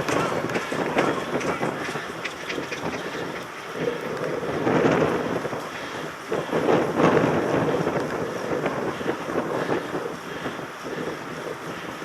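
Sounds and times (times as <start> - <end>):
bike rumble and rattle: 0.0 - 12.0
wind buffeting microphone: 0.0 - 12.0.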